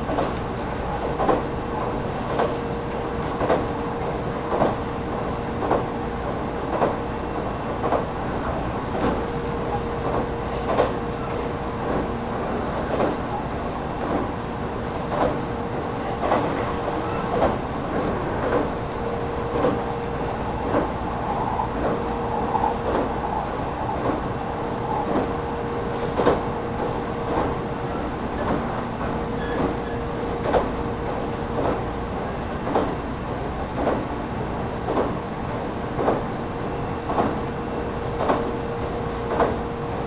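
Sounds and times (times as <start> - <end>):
train motor hum: 0.0 - 40.0.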